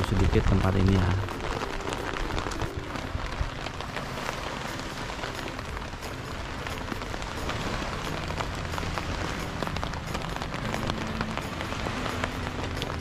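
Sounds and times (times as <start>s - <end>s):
rain on tent tarp: 0.0s - 13.0s.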